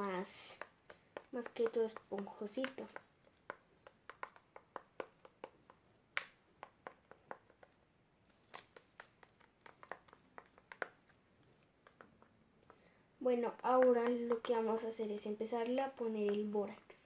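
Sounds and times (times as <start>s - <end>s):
slime stirred in a bowl: 0.0s - 16.4s.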